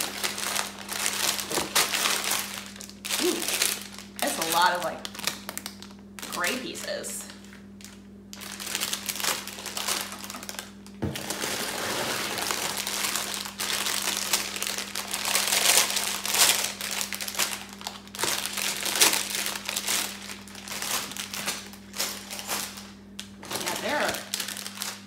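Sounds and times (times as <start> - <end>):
plastic bags crinkling: 0.0 - 25.0.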